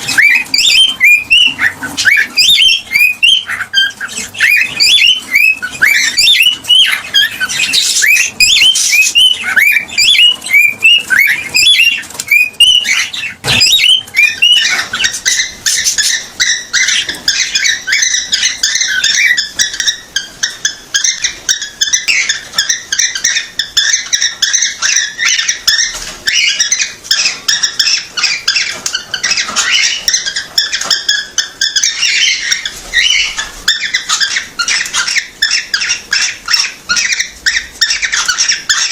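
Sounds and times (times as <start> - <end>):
cockatiel whistled chirps: 0.0 - 38.9.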